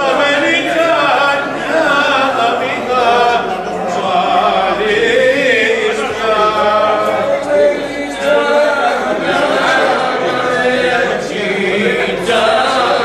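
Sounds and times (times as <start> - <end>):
men singing unaccompanied: 0.0 - 13.0.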